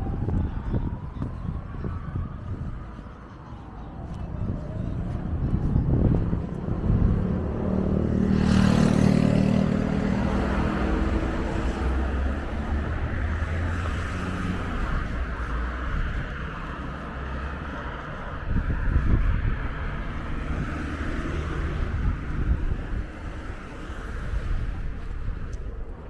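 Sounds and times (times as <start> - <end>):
low street traffic rumble: 0.0 - 26.0
vehicle passing close by: 4.3 - 25.6.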